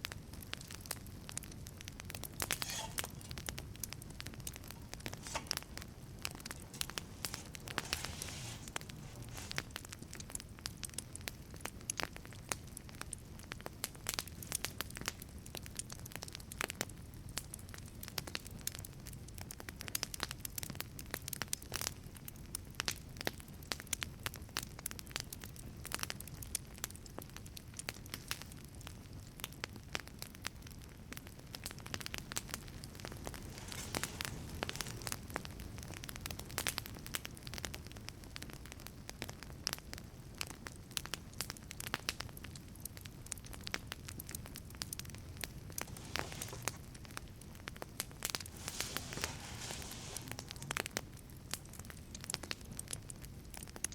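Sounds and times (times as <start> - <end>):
burning wood crackling and popping: 0.0 - 53.9
rumble of flames: 0.0 - 53.9.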